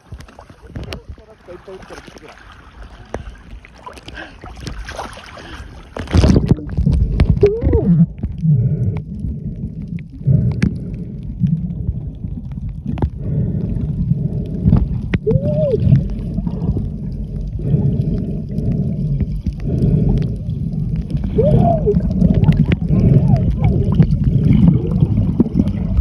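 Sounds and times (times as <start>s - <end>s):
underwater water gurgling: 0.0s - 26.0s.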